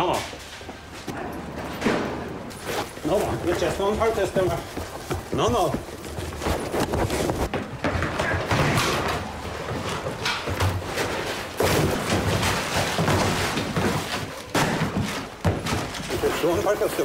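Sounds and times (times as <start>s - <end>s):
thuds and scraping of scuffle: 1.8s - 17.0s.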